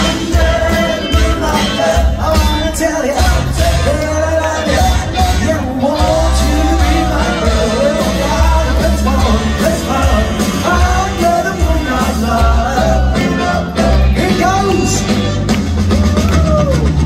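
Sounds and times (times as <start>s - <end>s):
person singing: 0.0s - 15.2s
drums: 0.0s - 17.0s
electric guitars: 0.0s - 17.0s
pulsing bass: 0.0s - 17.0s.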